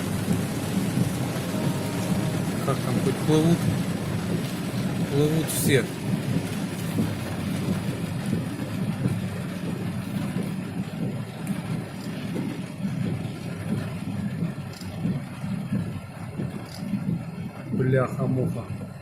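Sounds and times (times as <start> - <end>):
car engine running: 0.0 - 19.0
water churning around car: 0.0 - 19.0.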